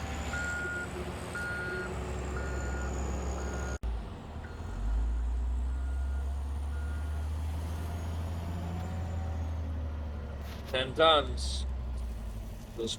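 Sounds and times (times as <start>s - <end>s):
diesel engines rumbling: 0.0s - 12.9s.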